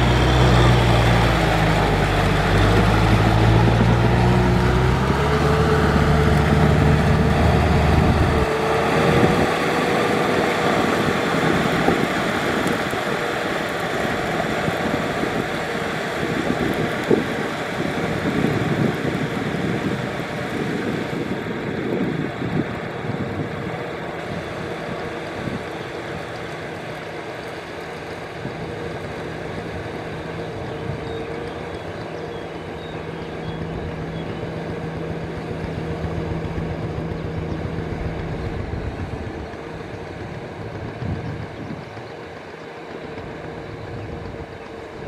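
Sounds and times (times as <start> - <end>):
tractor engine running under load: 0.0 - 45.0.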